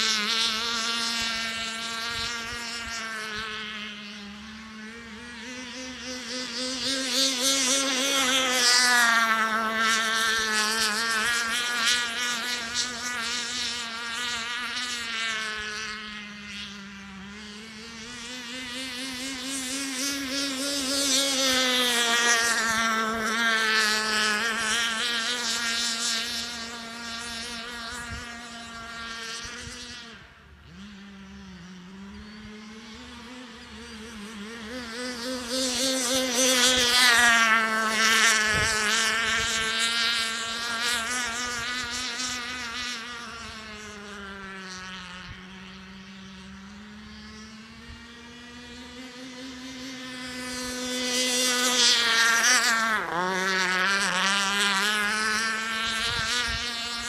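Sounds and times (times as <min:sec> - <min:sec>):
model boat engine whine: 0:00.0 - 0:57.0.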